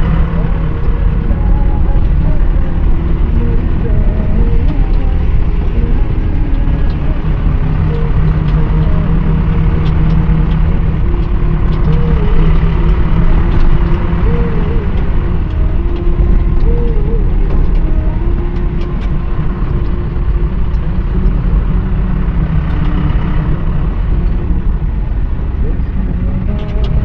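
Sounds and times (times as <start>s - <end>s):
engine and road rumble: 0.0s - 27.0s.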